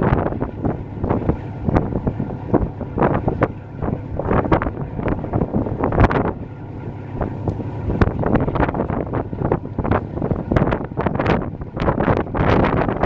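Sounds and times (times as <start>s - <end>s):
rush of boat through water: 0.0s - 13.0s
wind buffeting microphone: 0.0s - 13.0s.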